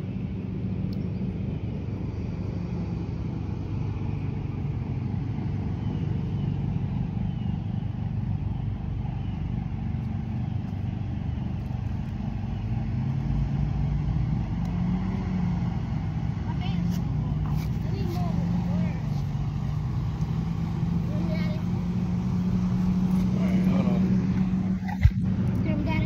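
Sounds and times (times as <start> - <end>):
low engine-like drone: 0.0 - 26.0.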